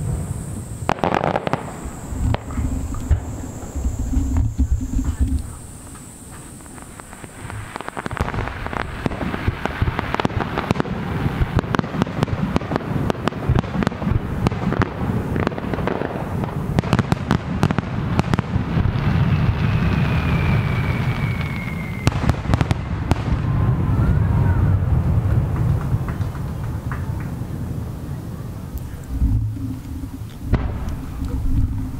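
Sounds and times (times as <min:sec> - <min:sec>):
firework falling whistle: 0:00.0 - 0:12.8, 0:13.5 - 0:31.9
fireworks bursting: 0:00.0 - 0:31.9.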